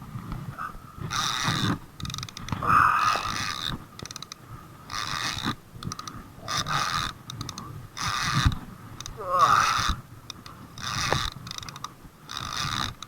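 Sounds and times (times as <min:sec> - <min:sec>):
fishing reel clicking whir: 0:01.1 - 0:13.0.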